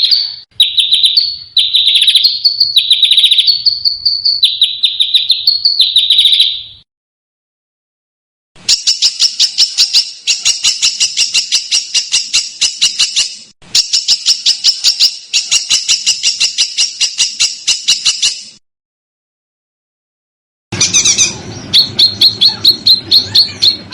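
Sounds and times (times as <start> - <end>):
songbird harsh rapid song: 0.0 - 6.8, 8.6 - 18.6, 20.8 - 23.9.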